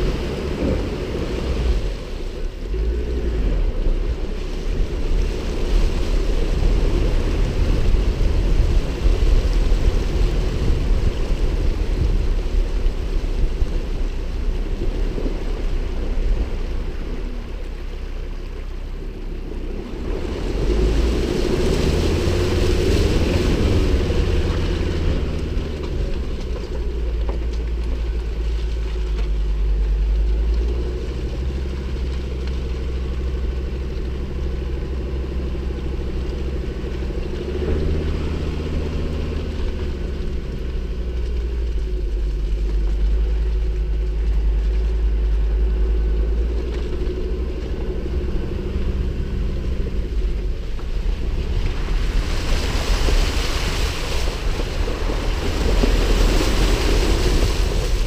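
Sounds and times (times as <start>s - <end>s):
truck engine rumble: 0.0s - 58.0s.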